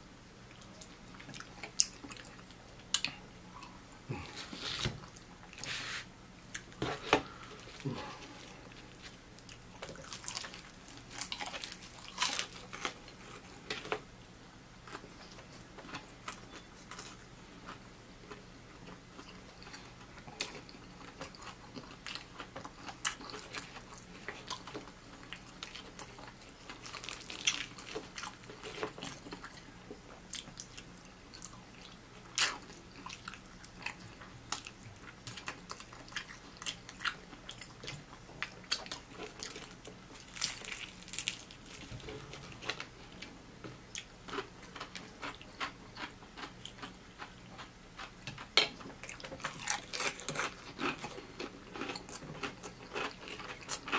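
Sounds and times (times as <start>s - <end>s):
crunchy chewing of fried chicken: 0.5s - 14.1s, 14.8s - 53.9s.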